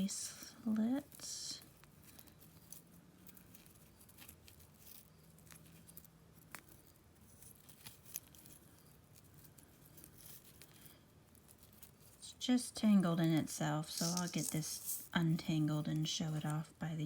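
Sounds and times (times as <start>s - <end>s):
jewelry clicking and clinking: 0.0s - 16.6s.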